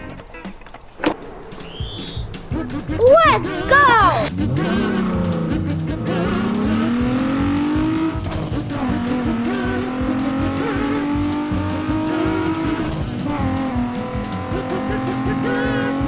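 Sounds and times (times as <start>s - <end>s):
car engine revving: 0.4s - 16.0s
rhythmic backing beat: 1.2s - 16.0s.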